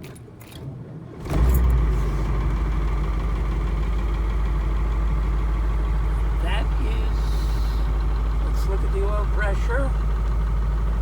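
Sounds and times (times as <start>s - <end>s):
bus engine starting and idling: 0.9s - 11.0s.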